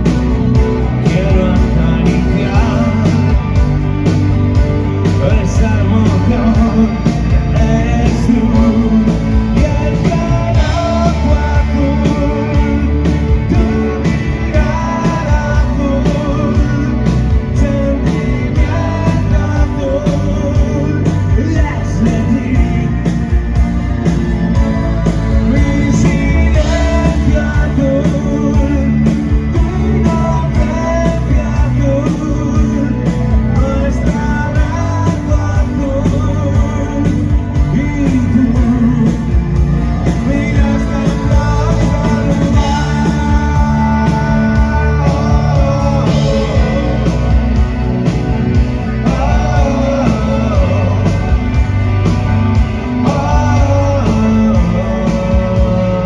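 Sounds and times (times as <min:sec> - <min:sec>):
bass guitar: 0:00.0 - 0:56.0
electric guitars: 0:00.0 - 0:56.0
person singing: 0:00.0 - 0:56.0.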